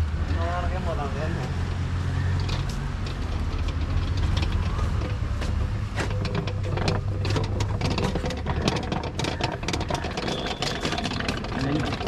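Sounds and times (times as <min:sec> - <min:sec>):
clicks and knocks of wheels: 0:00.0 - 0:12.0
prayer wheels rumbling: 0:00.0 - 0:12.0.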